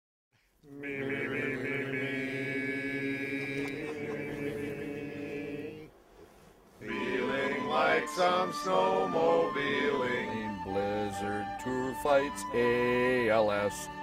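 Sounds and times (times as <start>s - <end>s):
group of voices singing: 0.6s - 5.9s, 6.8s - 13.4s.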